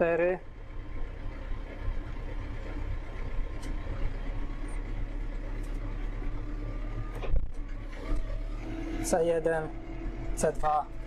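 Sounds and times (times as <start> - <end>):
tractor engine hum from cab: 0.0 - 11.0.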